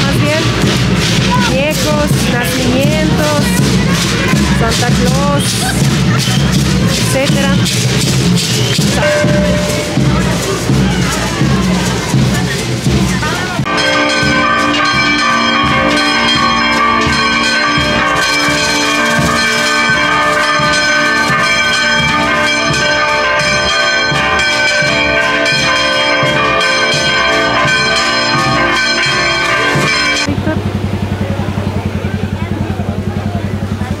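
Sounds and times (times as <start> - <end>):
church bells pealing: 0.0 - 34.0.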